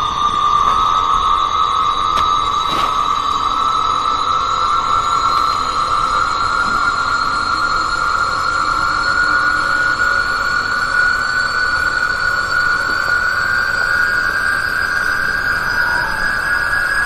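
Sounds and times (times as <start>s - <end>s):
high-pitched rising drone: 0.0s - 17.0s.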